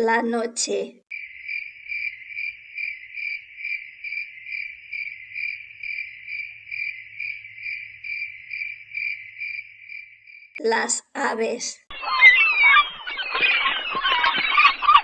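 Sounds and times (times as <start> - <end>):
crickets chirping: 1.1 - 10.6, 11.9 - 15.0.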